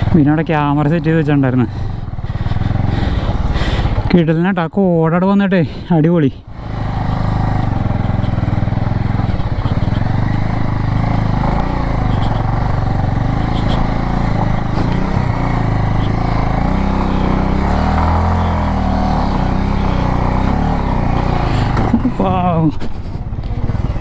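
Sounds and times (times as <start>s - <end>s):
motorcycle engine under load: 0.0s - 4.4s, 6.4s - 24.0s.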